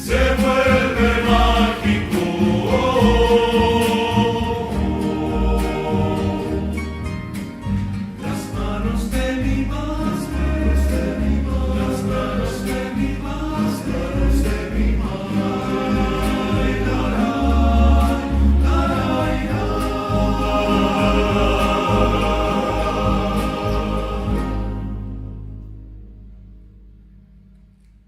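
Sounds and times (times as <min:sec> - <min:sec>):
choir singing sustained chords: 0:00.0 - 0:07.6, 0:08.2 - 0:26.5
bass line: 0:00.0 - 0:27.5.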